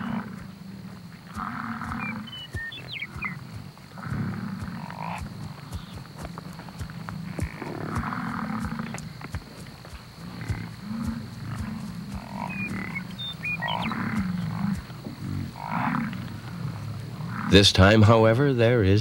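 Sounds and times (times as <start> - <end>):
bison grunting: 0.0 - 17.7.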